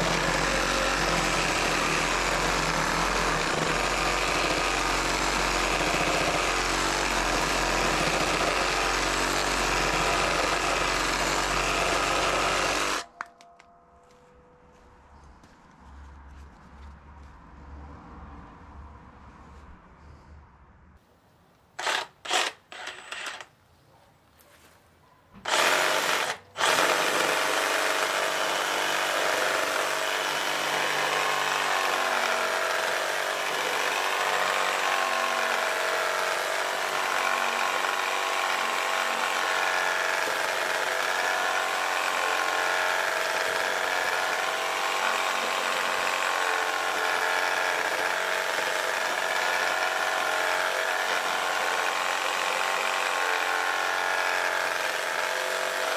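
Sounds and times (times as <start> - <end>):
reciprocating saw cutting log: 0.0 - 13.0, 21.8 - 23.4, 25.4 - 55.9.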